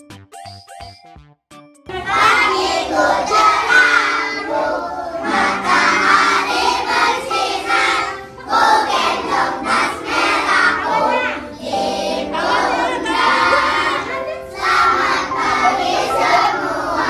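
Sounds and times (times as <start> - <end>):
children singing in unison: 1.9 - 17.0.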